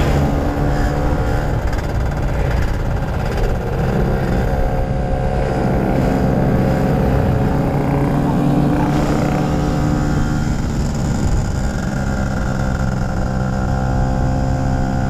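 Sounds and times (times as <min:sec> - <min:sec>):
two-stroke motorcycle engine running: 0:00.0 - 0:15.0.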